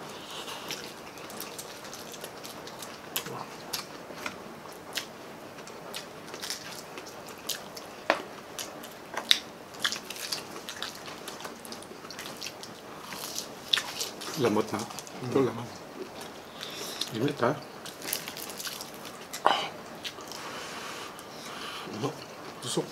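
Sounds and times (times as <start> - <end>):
chewing crispy food: 0.0 - 22.9.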